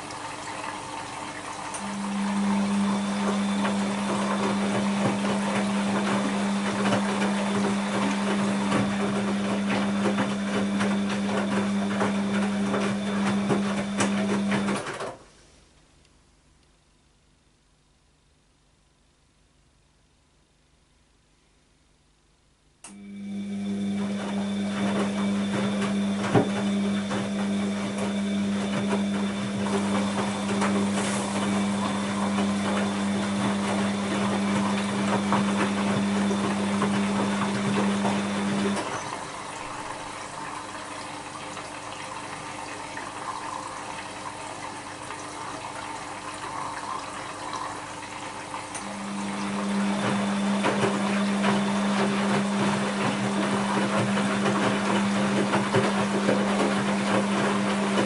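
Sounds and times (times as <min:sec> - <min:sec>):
water sloshing in drum: 0:00.0 - 0:15.0, 0:23.9 - 0:58.0
washing machine drain pump humming: 0:00.0 - 0:15.3, 0:22.7 - 0:58.0.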